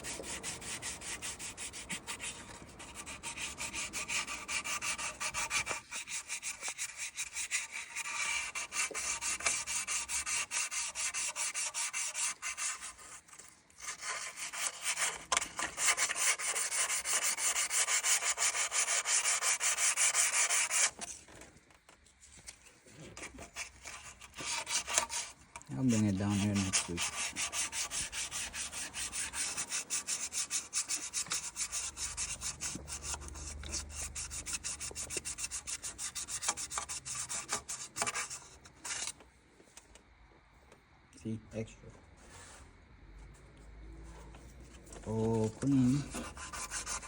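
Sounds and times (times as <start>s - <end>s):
sandpaper scraping metal: 0.0s - 21.1s, 23.2s - 39.2s, 45.1s - 47.0s.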